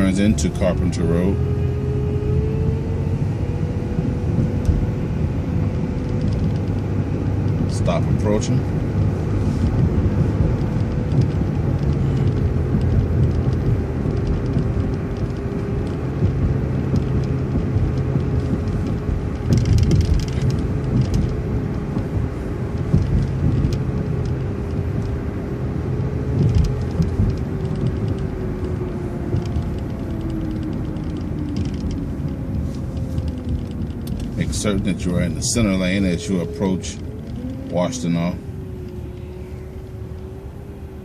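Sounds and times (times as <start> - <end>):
bus engine with whine: 0.0 - 41.0.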